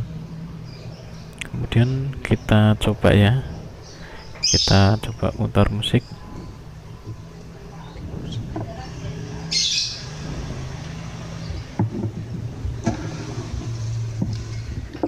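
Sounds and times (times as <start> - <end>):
birds calling: 0.0 - 15.0
vehicle engine humming: 0.0 - 15.0.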